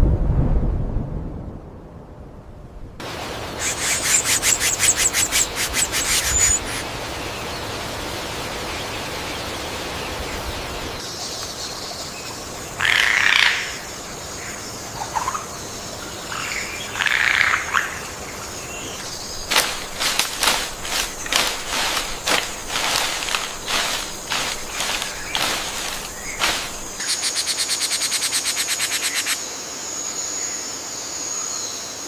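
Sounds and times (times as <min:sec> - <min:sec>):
background hiss: 0:03.0 - 0:13.0, 0:13.6 - 0:32.0
birds chirping: 0:03.6 - 0:29.4.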